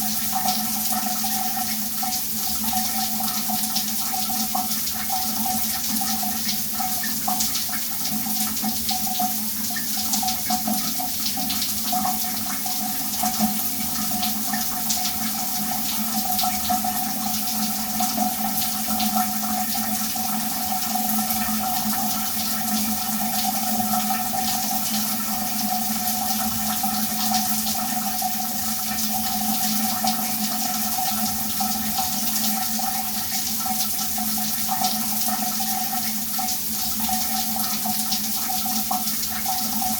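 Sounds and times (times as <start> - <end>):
shower water running: 0.0 - 39.9.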